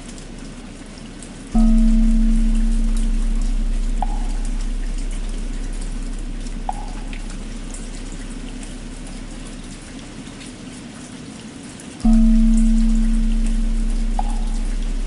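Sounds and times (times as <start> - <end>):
low droning hum: 0.0 - 10.8, 12.0 - 15.0
rain pattering: 0.0 - 15.0.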